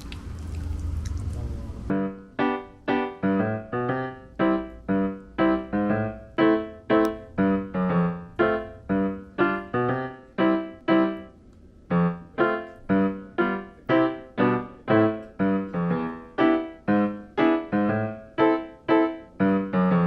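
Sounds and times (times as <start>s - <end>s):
piano melody of single notes: 1.8s - 20.0s.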